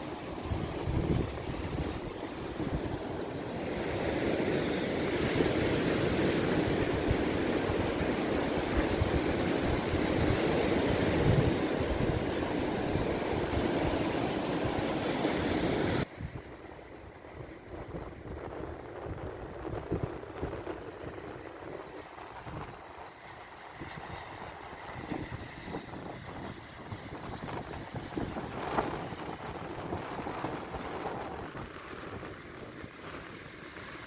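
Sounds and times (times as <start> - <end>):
surf washing on shore: 0.0 - 34.0
wind buffeting microphone: 0.0 - 34.0.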